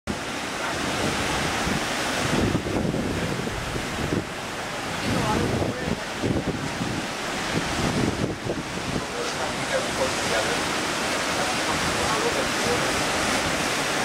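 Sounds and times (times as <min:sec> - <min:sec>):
ocean surf breaking over rocks: 0:00.1 - 0:14.0
wind buffeting microphone: 0:00.1 - 0:14.0.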